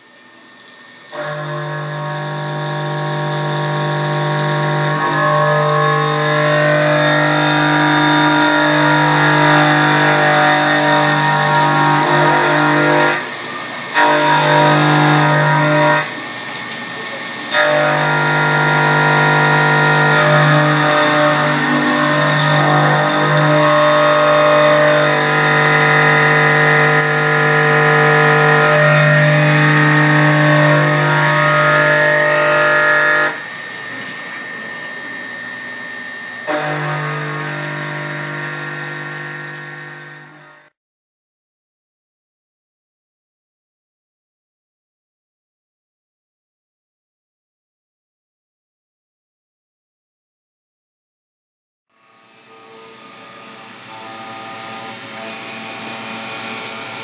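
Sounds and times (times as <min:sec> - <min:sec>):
milling machine cutting metal: 0:00.0 - 0:40.7, 0:52.0 - 0:57.0.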